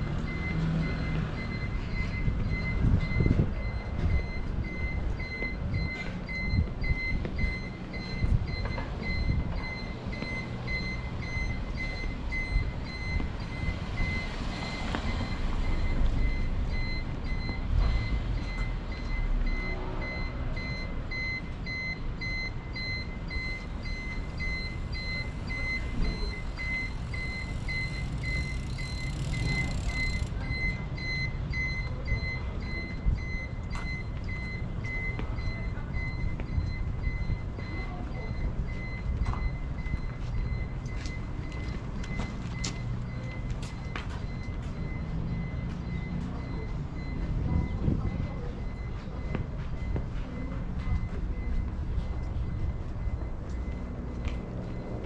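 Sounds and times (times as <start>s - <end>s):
low rumble of street traffic: 0.0s - 55.0s
electronic warning beeper: 0.3s - 55.0s.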